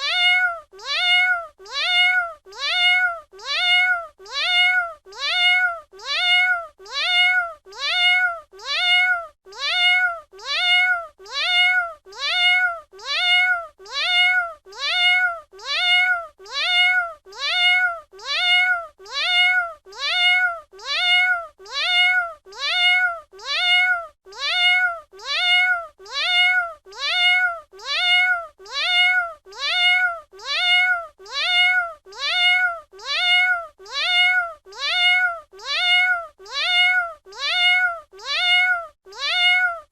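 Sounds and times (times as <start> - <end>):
cat meowing: 0.0 - 39.9.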